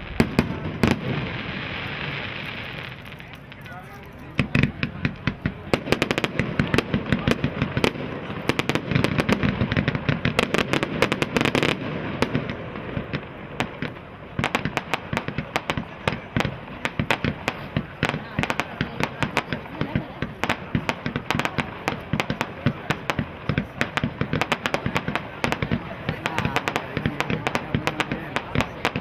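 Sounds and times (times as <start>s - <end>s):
fireworks crackling bangs: 0.0s - 29.0s.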